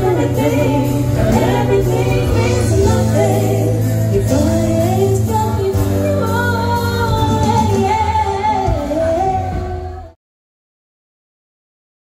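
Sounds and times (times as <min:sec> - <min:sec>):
acoustic guitar: 0:00.0 - 0:10.1
low bass notes: 0:00.0 - 0:10.2
woman singing a pop ballad: 0:00.0 - 0:10.2.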